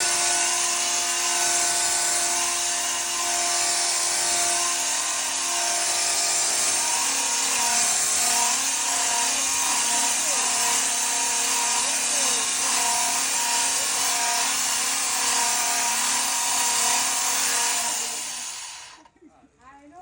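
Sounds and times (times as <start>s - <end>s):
circular saw running: 0.0s - 19.0s.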